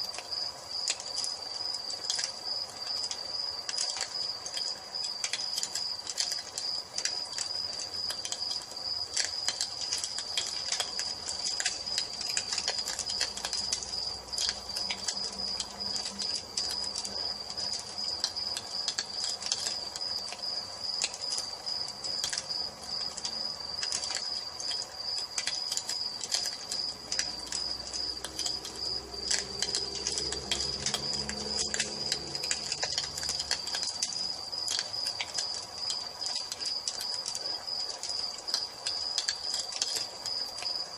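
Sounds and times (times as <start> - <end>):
crickets chirping: 0.0 - 40.9
wood fire crackling: 0.0 - 40.9.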